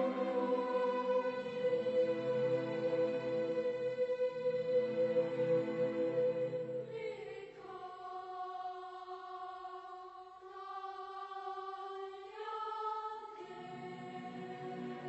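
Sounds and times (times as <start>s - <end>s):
choir holding long notes: 0.0s - 15.0s.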